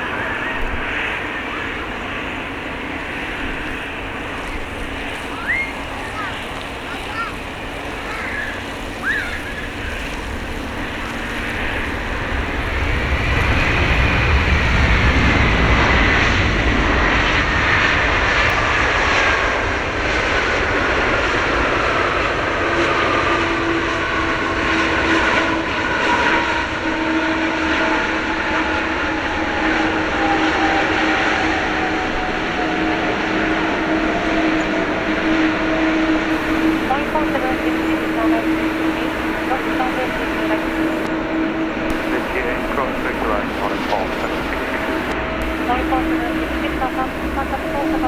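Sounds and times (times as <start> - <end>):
jet engines passing by: 0.0 - 48.0.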